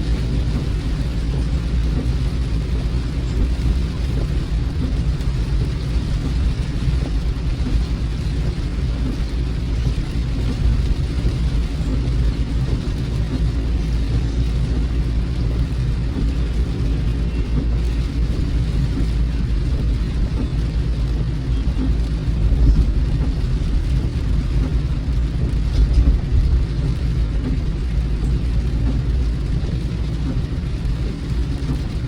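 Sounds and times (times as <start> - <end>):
car interior rumble: 0.0 - 32.0
rain hiss: 0.0 - 32.0.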